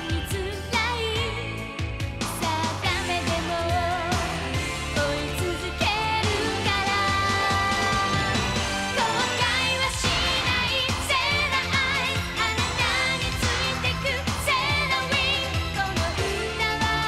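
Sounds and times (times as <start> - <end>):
woman singing: 0.0 - 1.6, 2.3 - 17.0
steady drum beat: 1.8 - 17.0
synthesizer chords: 2.8 - 17.0.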